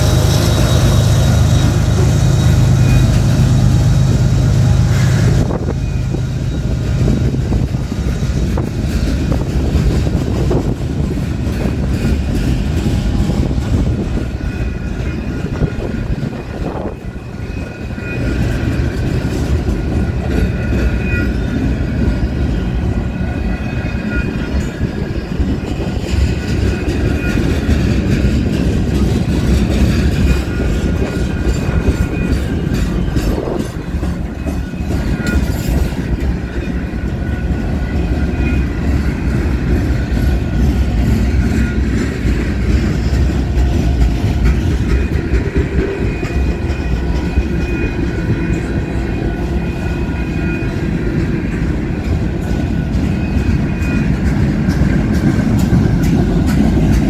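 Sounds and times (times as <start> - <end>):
diesel locomotive working hard: 0.0 - 57.0
freight cars rolling on rails: 0.0 - 57.0.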